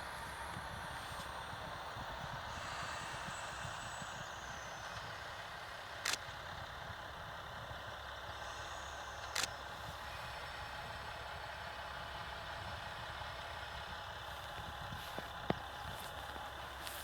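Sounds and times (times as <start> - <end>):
diesel railcar engine running: 0.0 - 17.0.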